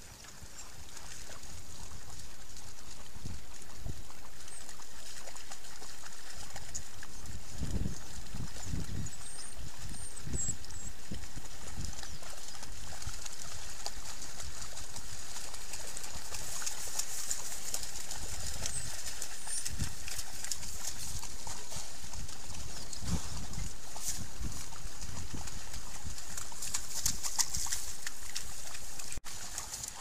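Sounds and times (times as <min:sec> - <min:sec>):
animals splashing through water: 0:00.0 - 0:30.0.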